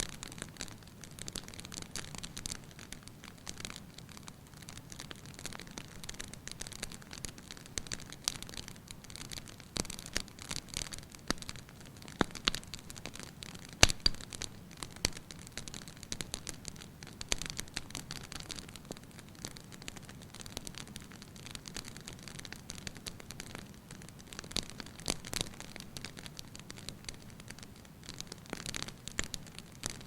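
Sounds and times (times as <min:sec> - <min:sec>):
fire pops and snaps: 0:00.0 - 0:30.0
wood fire crackling: 0:00.0 - 0:30.0.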